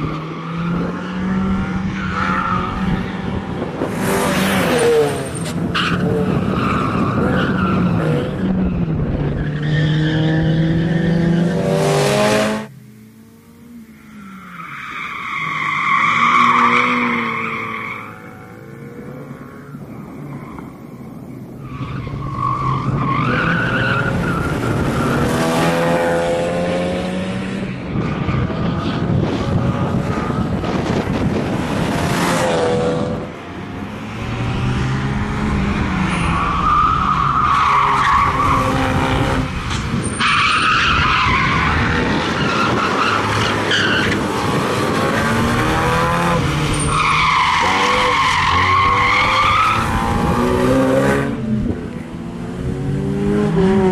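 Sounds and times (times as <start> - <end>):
rally car engine revving: 0.0 - 12.7, 22.1 - 53.9.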